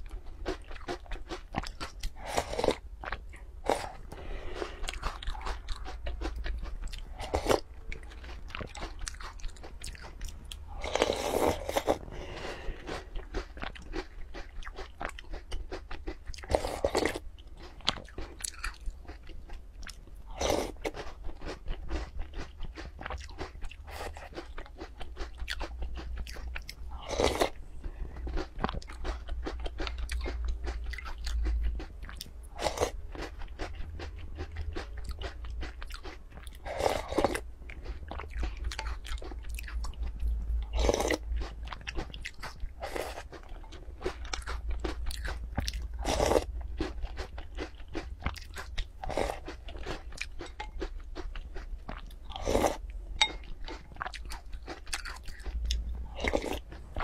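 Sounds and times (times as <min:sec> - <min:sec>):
crunching and chewing biscuits: 0:00.0 - 0:57.0.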